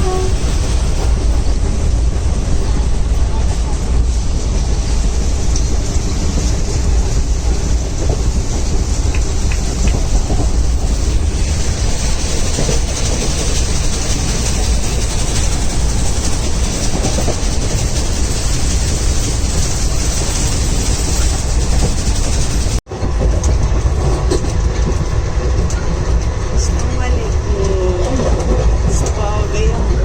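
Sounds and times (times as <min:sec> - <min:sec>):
train rumbling and rattling: 0:00.0 - 0:30.0.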